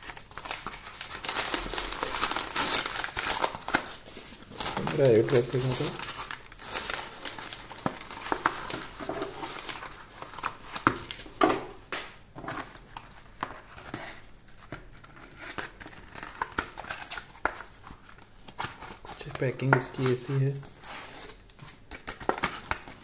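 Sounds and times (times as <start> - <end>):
paper and cardboard rustling: 0.0 - 11.8, 12.4 - 23.0.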